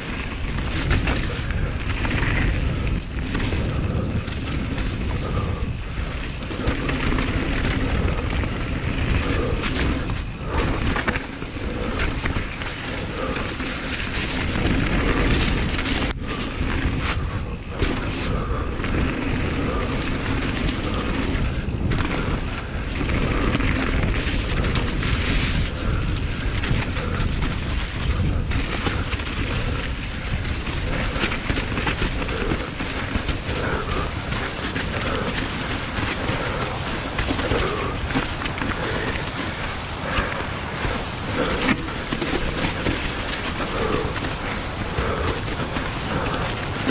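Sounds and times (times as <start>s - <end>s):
bike rattling and knocking: 0.0s - 46.9s
bike tyre noise: 0.0s - 46.9s
wind rush: 0.0s - 46.9s.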